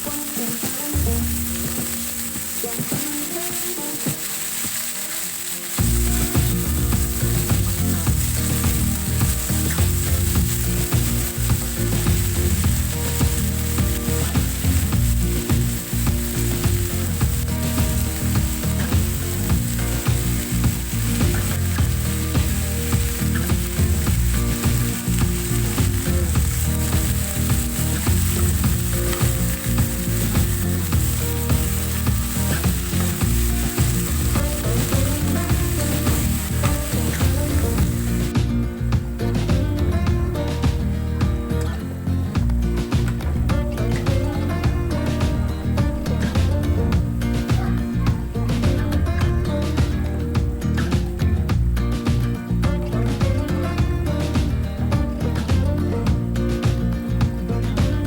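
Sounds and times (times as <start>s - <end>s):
food sizzling in a pan: 0.0s - 58.0s
low rhythmic beat: 0.0s - 58.0s.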